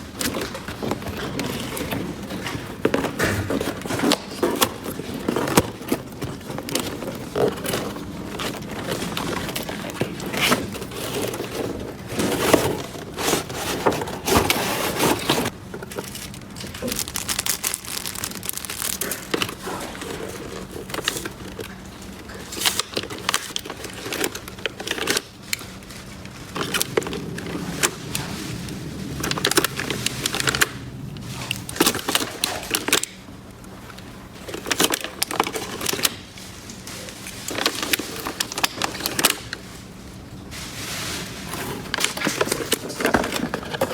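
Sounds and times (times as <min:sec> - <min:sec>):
packaging crinkling: 0:00.0 - 0:43.9.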